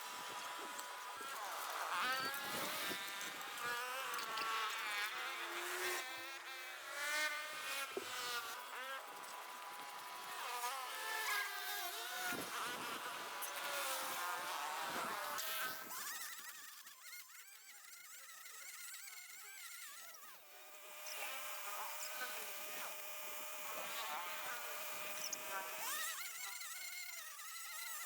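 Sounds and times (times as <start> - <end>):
small engine buzzing whine: 0.0 - 28.0.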